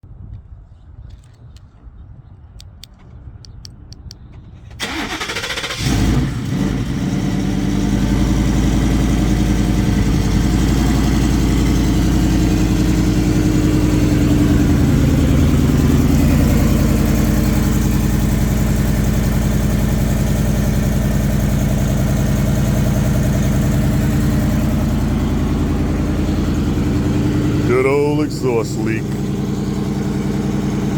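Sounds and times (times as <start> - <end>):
truck engine idling: 2.6 - 30.9
truck engine cranking: 3.6 - 30.9.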